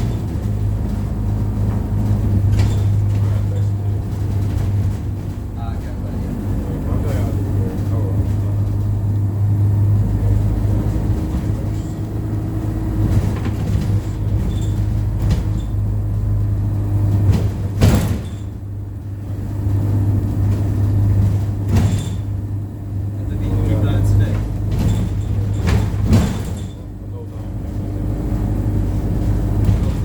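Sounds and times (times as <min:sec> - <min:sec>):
bus engine drone: 0:00.0 - 0:30.0
light rattles: 0:00.0 - 0:30.0.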